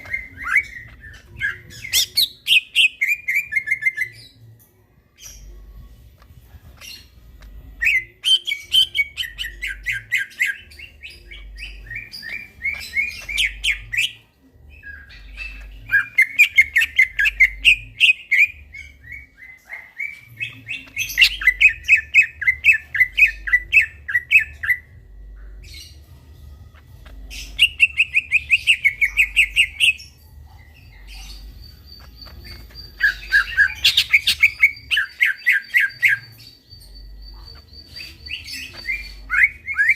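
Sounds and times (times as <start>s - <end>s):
bird chattering song: 0.0s - 4.4s, 5.2s - 39.9s.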